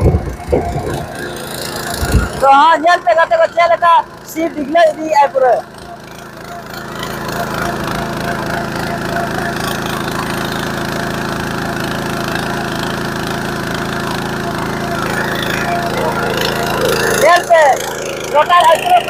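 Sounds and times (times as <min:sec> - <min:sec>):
petrol engine running under load: 0:00.0 - 0:19.0
rotary tines churning soil: 0:00.3 - 0:19.0.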